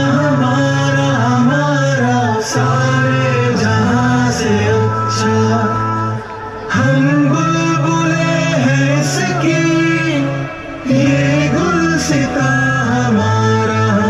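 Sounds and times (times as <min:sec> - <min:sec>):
instrumental backing music: 0:00.0 - 0:14.0
man singing: 0:00.0 - 0:14.0.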